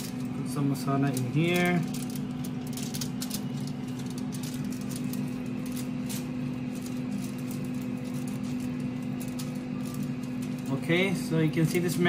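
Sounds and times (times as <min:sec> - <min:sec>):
air fryer fan humming: 0:00.0 - 0:12.0.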